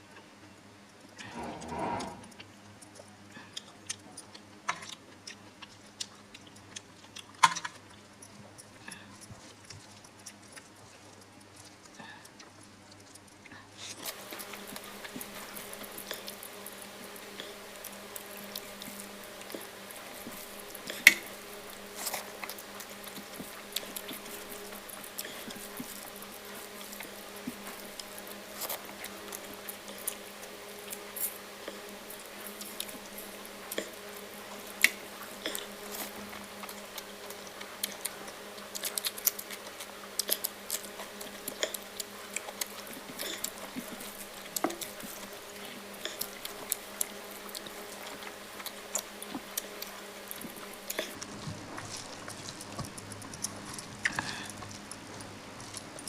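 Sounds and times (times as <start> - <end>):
wet eating sounds: 0.9 - 56.0.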